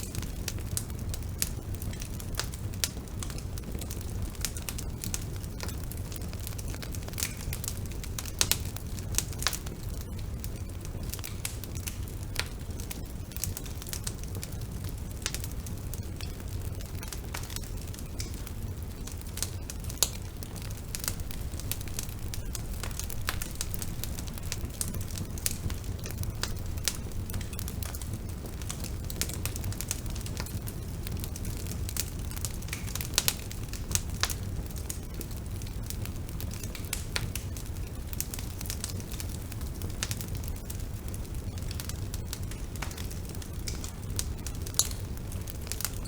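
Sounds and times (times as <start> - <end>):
bonfire flames rumbling: 0.0 - 46.0
burning wood crackling and popping: 0.0 - 46.0.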